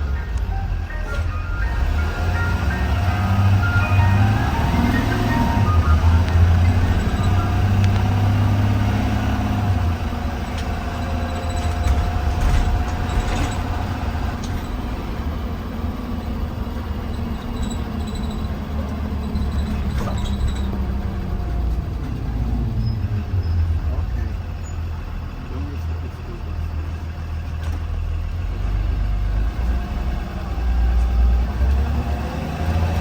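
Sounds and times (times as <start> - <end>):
bus engine rumble: 0.0 - 33.0
road and cabin noise: 0.0 - 33.0.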